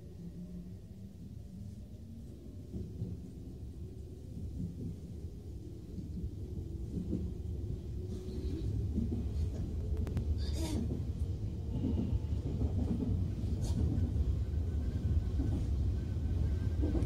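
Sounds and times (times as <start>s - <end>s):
train wheels rumbling on rail: 2.1s - 17.0s.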